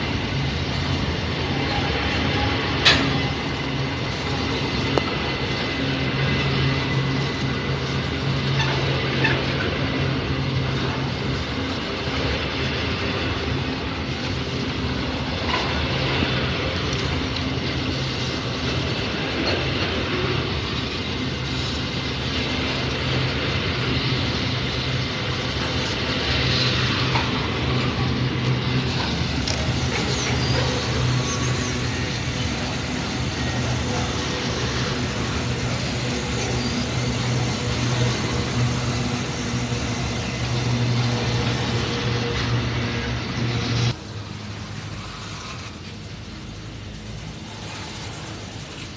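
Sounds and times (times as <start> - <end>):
freight train rumbling: 0.0 - 48.9.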